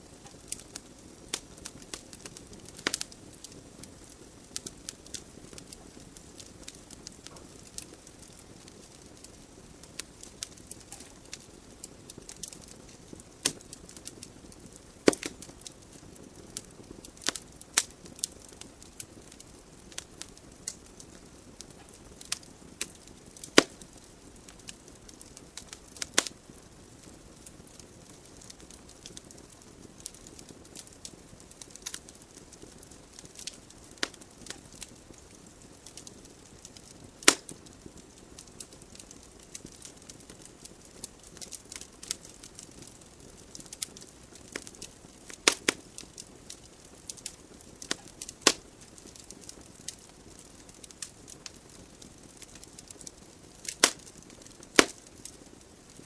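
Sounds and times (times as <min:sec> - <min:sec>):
fireplace flames hissing: 0:00.0 - 0:56.0
wood crackling: 0:00.0 - 0:56.0
sharp pops of burning logs: 0:00.1 - 0:56.0.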